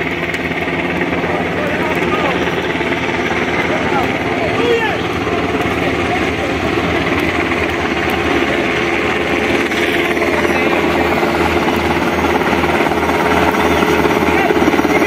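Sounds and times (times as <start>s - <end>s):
helicopter rotor beating: 0.0s - 15.0s
helicopter turbine hum: 0.0s - 15.0s.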